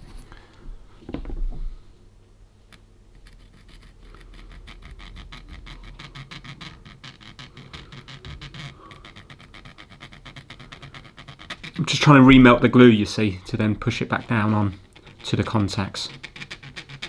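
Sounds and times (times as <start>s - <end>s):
soldering iron tip scratching: 3.2s - 17.0s.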